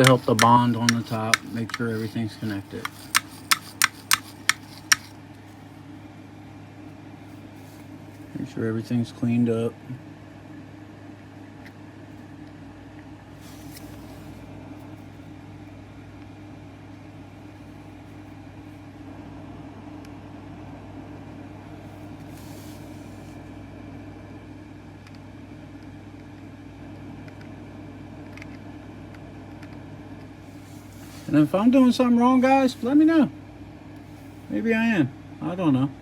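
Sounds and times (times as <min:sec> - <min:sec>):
low electrical hum: 0:00.0 - 0:36.0.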